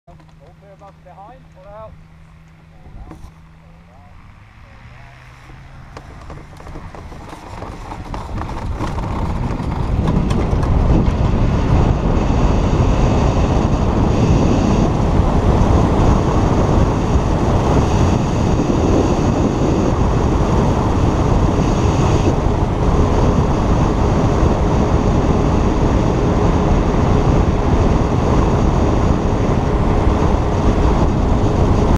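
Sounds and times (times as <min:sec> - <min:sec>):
wind rushing over microphone: 0:01.2 - 0:31.9.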